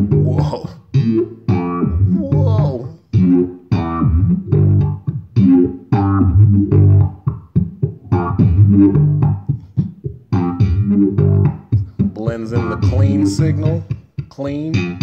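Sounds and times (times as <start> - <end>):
electric bass guitar plucked notes: 0.0 - 14.1, 14.7 - 15.0.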